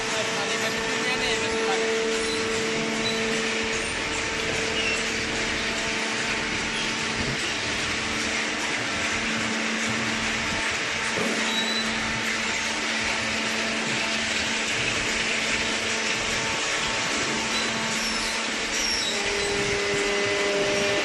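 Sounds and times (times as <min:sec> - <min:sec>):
industrial machinery whirring: 0:00.0 - 0:21.0.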